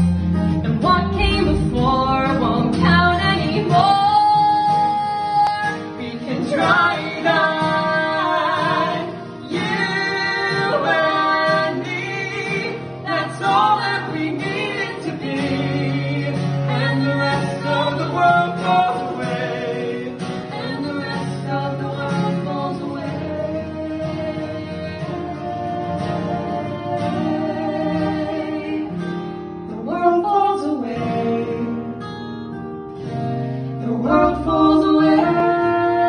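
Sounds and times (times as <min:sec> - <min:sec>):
acoustic guitars playing: 0:00.0 - 0:36.0
man and woman singing duet: 0:00.6 - 0:32.0, 0:33.8 - 0:36.0.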